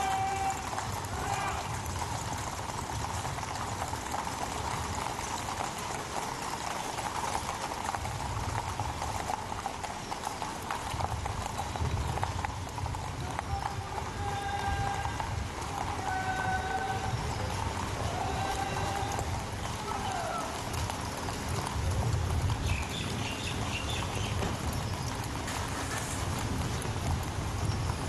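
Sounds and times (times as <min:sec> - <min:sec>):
horses hooves clip-clopping: 0:00.0 - 0:28.0.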